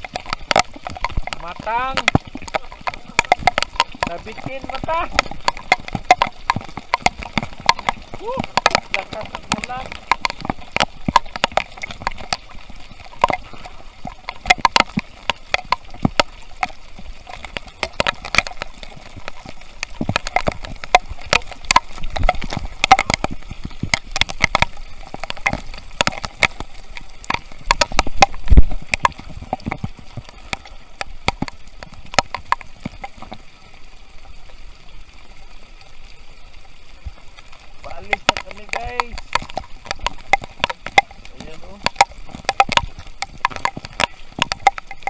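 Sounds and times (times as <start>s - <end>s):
heavy rain at sea: 0.0s - 45.0s
raindrops striking sharp taps: 0.0s - 45.0s.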